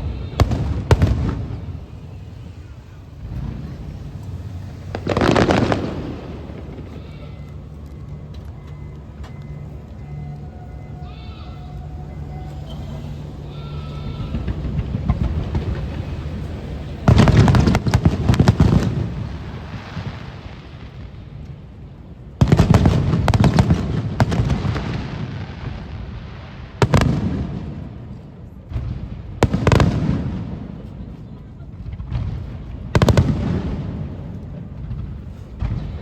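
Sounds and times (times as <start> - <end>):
fireworks bursting: 0.0 - 21.6, 22.4 - 30.9, 31.7 - 36.0.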